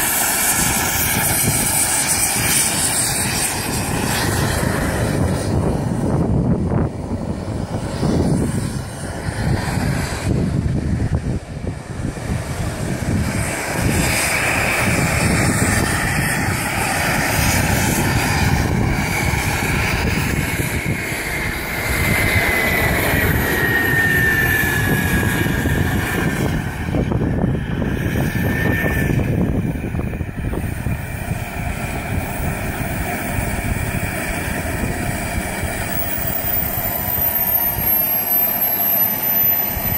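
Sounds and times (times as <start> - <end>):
high whine gliding down: 0.0 - 39.9
jet turbine boat rushing: 0.0 - 39.9.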